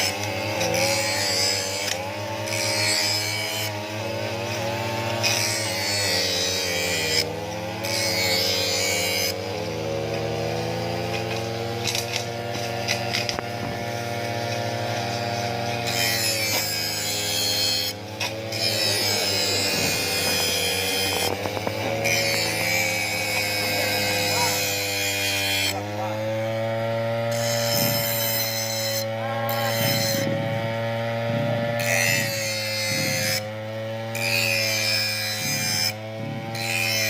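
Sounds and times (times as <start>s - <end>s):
hissing of grass being cut: 0.0s - 37.0s
two-stroke grass cutter engine: 0.0s - 37.0s.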